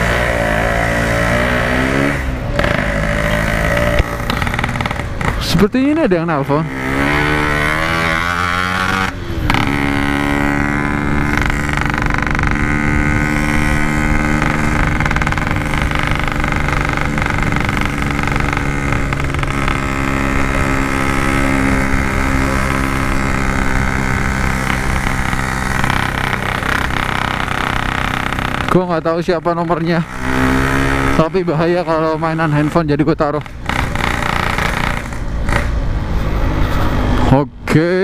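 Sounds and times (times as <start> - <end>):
two-stroke motorcycle engine cruising: 0.0 - 37.9.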